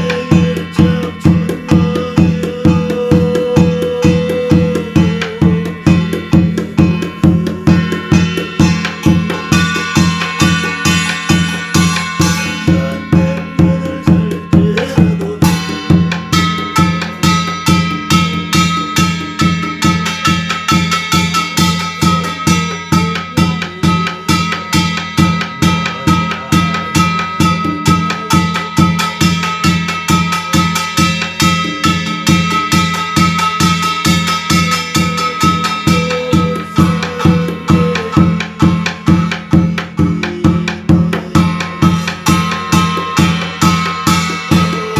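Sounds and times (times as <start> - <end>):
barrel drum beaten: 0.0 - 44.9
held high tone: 0.0 - 44.9
brass gongs ringing: 4.8 - 44.9.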